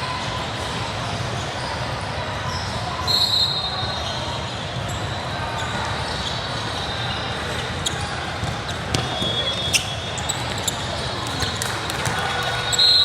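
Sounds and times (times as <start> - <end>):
murmur and movement echoing in gym: 0.0 - 13.0.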